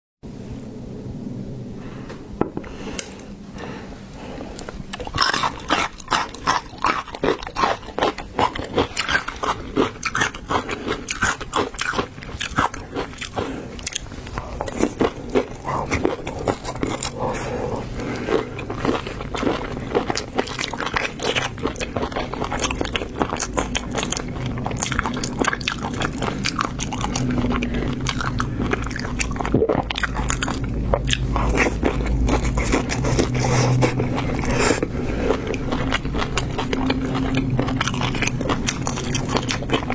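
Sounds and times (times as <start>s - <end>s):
low hum: 0.3s - 39.9s
crunchy seafood chewing: 2.8s - 39.9s.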